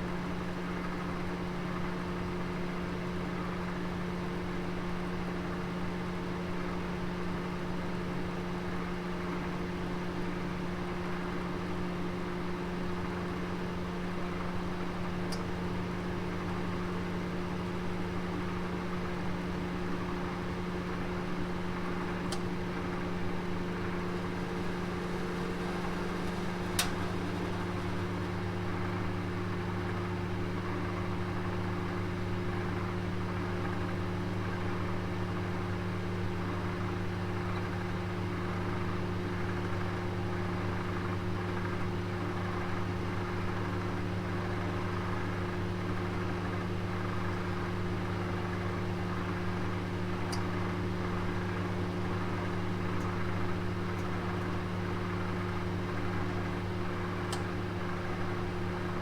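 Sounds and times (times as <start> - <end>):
oven humming and hissing: 0.0 - 59.0.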